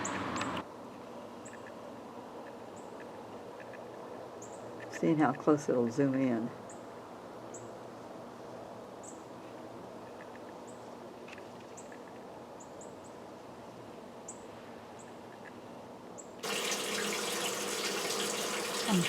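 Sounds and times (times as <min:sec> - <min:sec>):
quiet outdoor ambience: 0:00.0 - 0:19.0.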